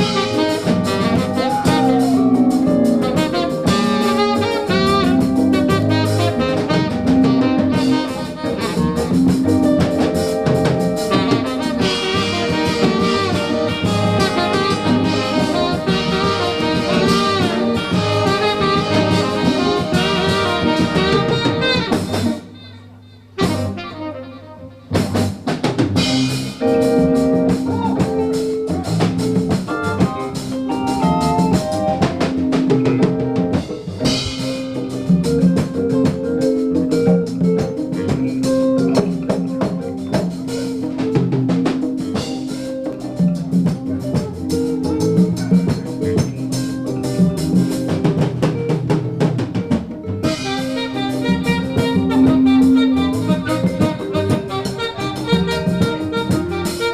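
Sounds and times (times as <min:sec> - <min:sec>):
bass line: 0:00.0 - 0:24.0, 0:25.0 - 0:56.9
busy drumming: 0:00.0 - 0:24.2, 0:24.8 - 0:56.9
live jazz band playing: 0:00.0 - 0:56.9.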